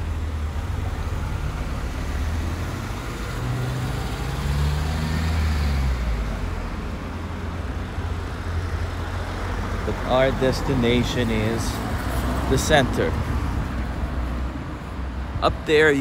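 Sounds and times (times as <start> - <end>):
vehicle engine passing: 0.0 - 14.5
street traffic hum: 0.0 - 16.0.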